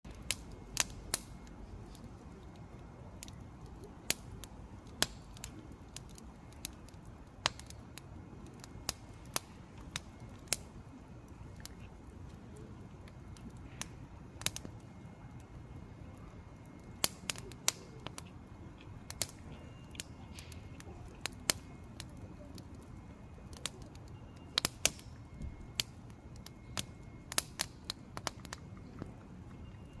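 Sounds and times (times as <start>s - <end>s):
campfire crackling and popping: 0.1s - 30.0s
low rumble of flames: 0.1s - 30.0s.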